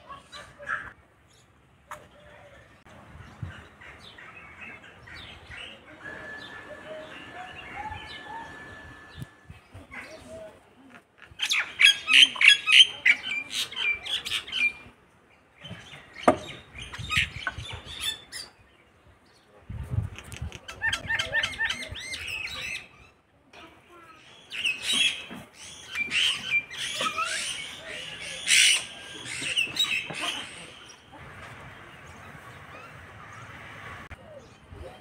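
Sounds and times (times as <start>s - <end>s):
birds chirping and calling: 0.0s - 10.6s, 11.2s - 35.0s.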